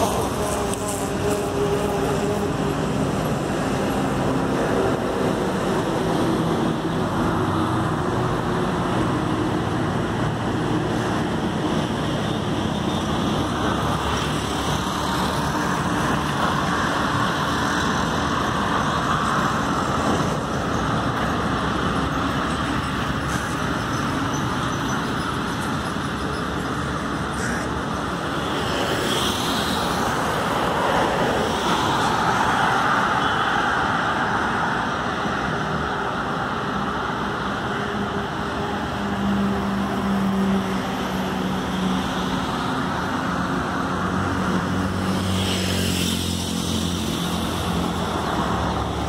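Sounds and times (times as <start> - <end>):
highway traffic rumble: 0.0 - 49.0.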